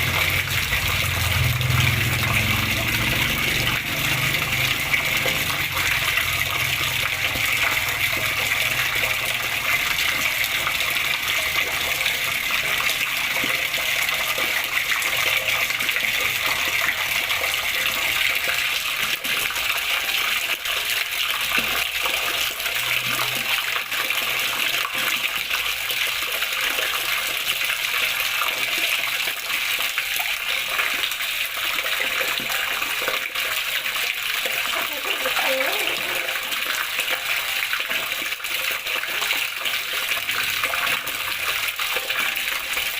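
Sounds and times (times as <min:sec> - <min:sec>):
water splashing and babbling: 0:00.0 - 0:42.9.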